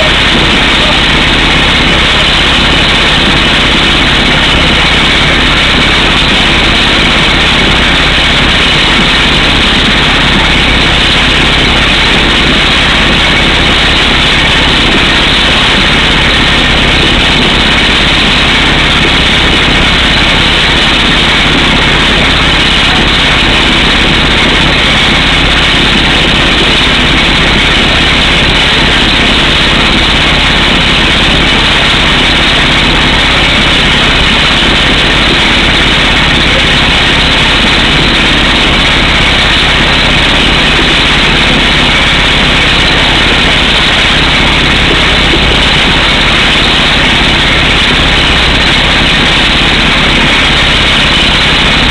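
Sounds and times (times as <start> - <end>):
air hammer pounding rock: 0.0 - 51.9
engine running: 0.0 - 51.9.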